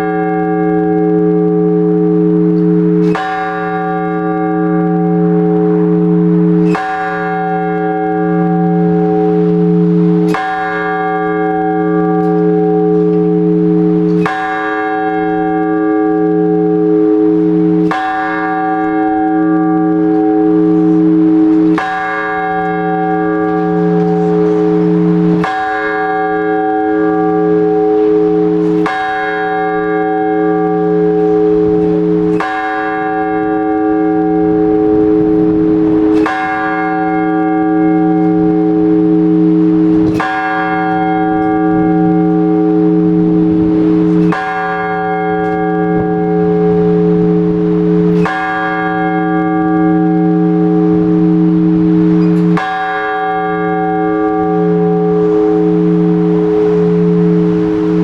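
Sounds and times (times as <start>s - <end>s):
large church bell tolling: 0.0s - 58.0s.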